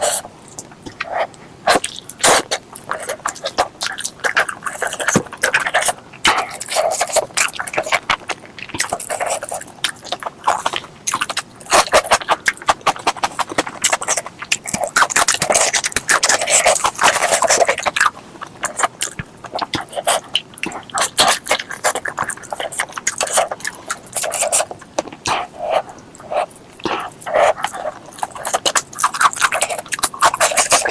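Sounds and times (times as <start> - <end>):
wet chewing and lip-smacking: 0.0 - 30.9.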